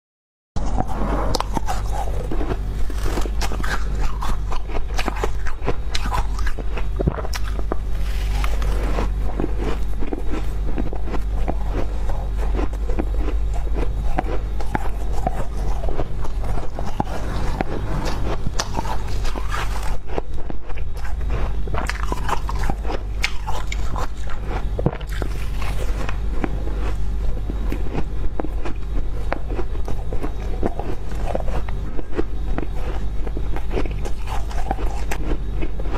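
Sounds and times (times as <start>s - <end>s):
frost crunching and crackling: 0.6s - 35.9s
steady low hum: 0.6s - 35.9s.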